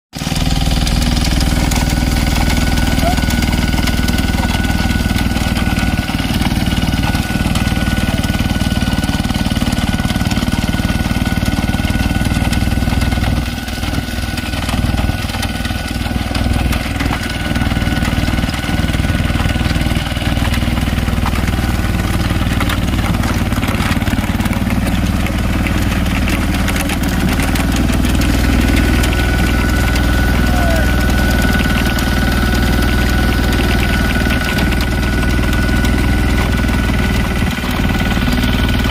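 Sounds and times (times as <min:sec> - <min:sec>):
rotary implement churning soil: 0:00.2 - 0:38.9
tractor engine running under load: 0:00.2 - 0:38.9.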